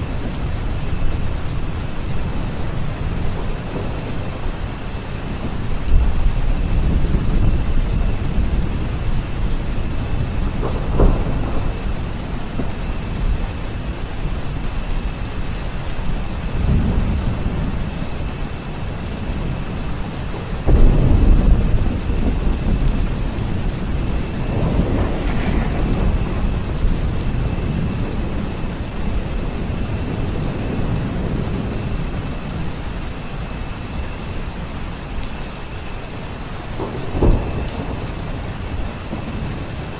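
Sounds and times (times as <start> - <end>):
rolling thunder: 0.0 - 34.8, 35.4 - 39.9
steady rain: 0.0 - 39.9.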